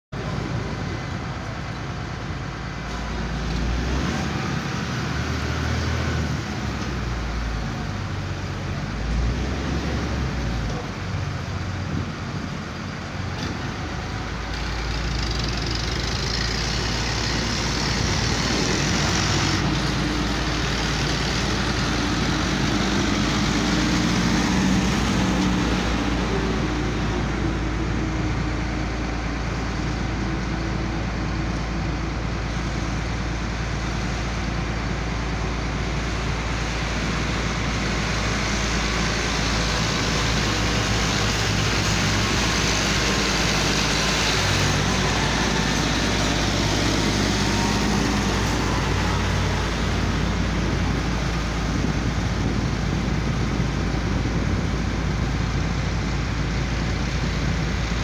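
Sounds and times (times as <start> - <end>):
heavy diesel engines running: 0.1 - 58.0.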